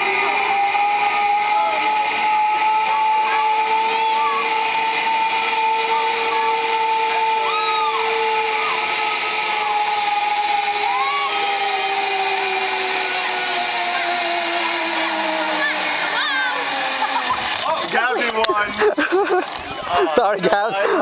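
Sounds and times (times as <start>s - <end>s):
zip line pulleys whining on cable: 0.0s - 21.0s.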